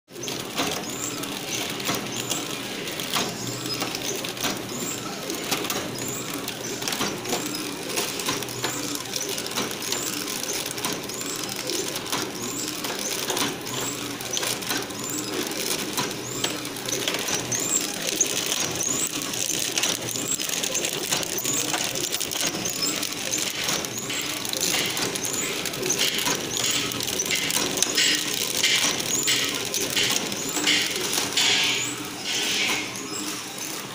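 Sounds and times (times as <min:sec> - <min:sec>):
machine clicks: 0:00.1 - 0:33.9
packing machine whirring: 0:00.1 - 0:33.9.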